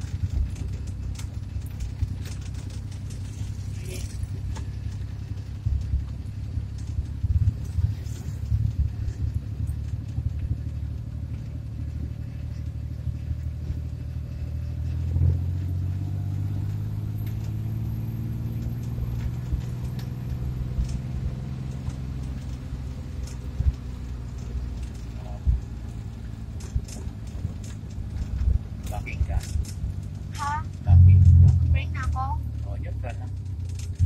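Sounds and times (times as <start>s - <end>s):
van engine running: 0.0s - 34.0s.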